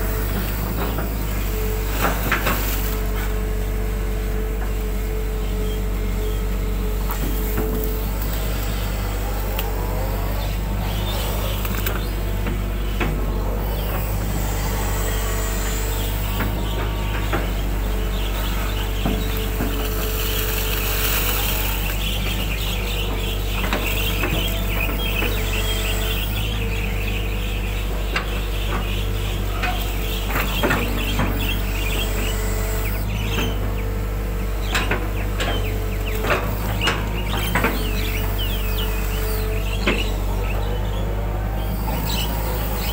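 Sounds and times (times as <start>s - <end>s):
diesel engine droning: 0.0s - 42.9s
hydraulic whine: 0.0s - 42.9s.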